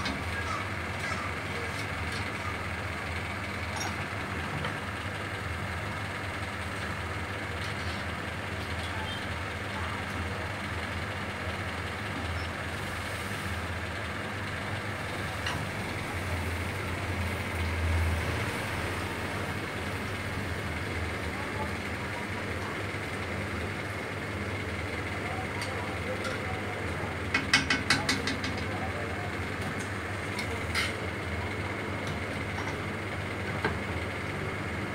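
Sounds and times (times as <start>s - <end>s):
deep-frying rumble and hiss: 0.0s - 34.9s.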